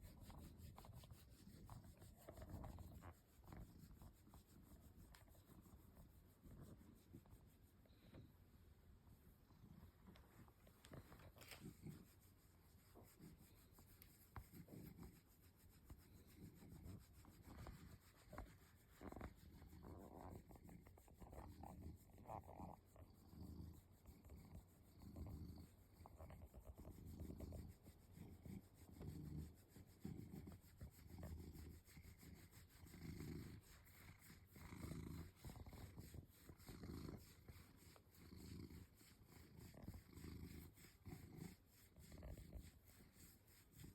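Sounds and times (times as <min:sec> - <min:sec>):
cat purring softly: 0:00.0 - 0:43.9.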